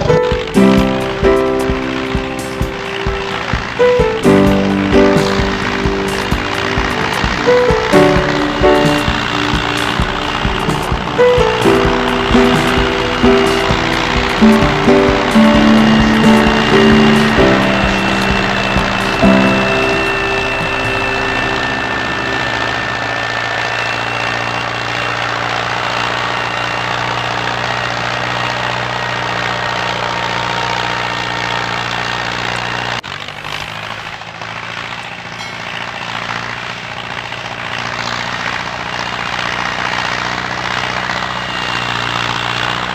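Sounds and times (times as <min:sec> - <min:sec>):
tractor engine drone: 0:00.0 - 0:42.9.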